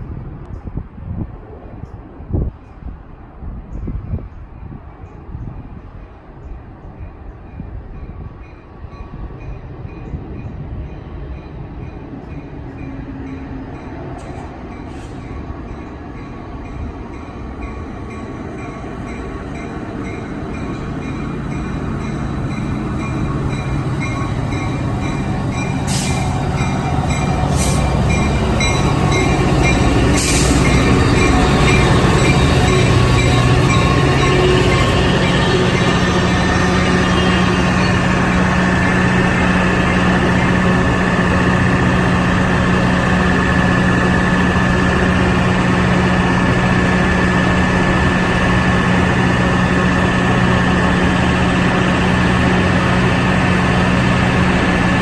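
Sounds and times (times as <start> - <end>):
train rumbling through station: 0.0 - 55.0
diesel locomotive engine running: 8.8 - 55.0.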